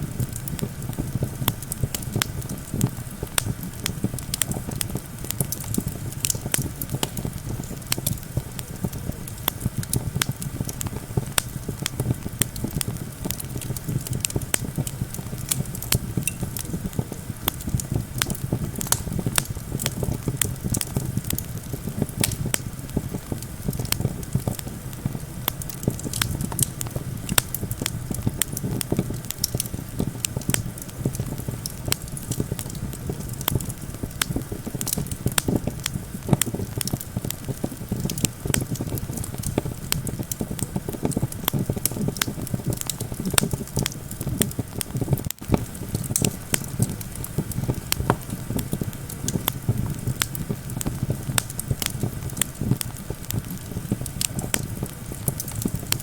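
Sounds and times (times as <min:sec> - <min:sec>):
low rumble of wind: 0:00.0 - 0:56.0
wood crackling and popping: 0:00.0 - 0:56.0.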